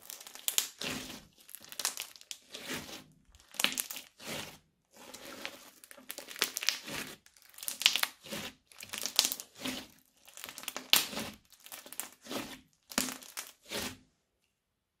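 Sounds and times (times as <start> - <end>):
crunchy slime squeezed: 0.0 - 2.6, 3.4 - 4.3, 5.1 - 13.8.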